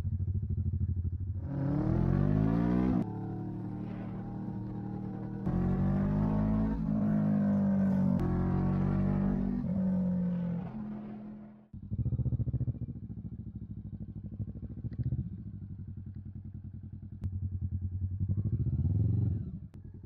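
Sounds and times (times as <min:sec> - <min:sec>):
motorcycle engine running: 0:00.0 - 0:20.0
motorcycle throttle blips: 0:00.4 - 0:19.9.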